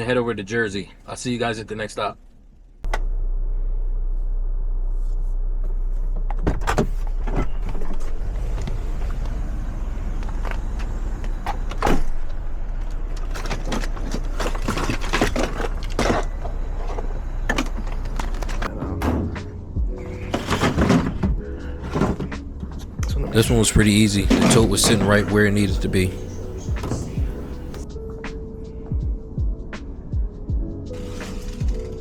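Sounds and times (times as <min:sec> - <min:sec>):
road rumble inside car: 0:00.4 - 0:28.3.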